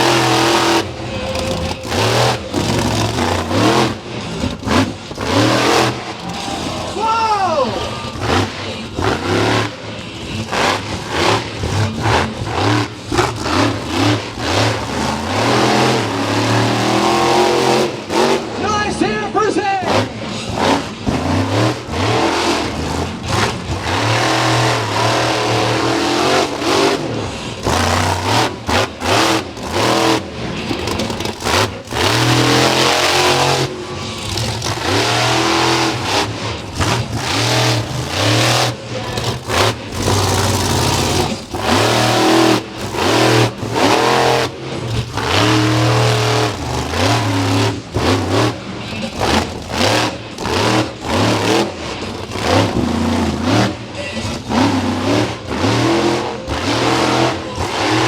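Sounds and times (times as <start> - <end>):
truck engine revving hard: 0.0 - 58.0.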